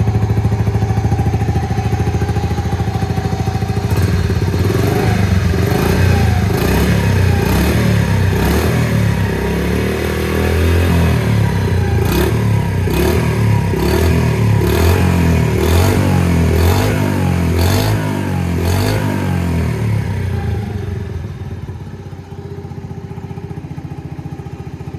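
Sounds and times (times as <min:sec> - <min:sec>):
motorcycle engine idling: 0:00.0 - 0:24.9
motorcycle engine revving: 0:00.0 - 0:24.9.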